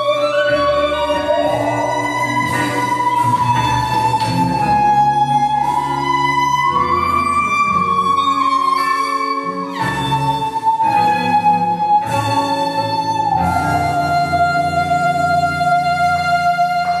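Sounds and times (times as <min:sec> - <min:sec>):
instrumental jazz band: 0:00.0 - 0:17.0.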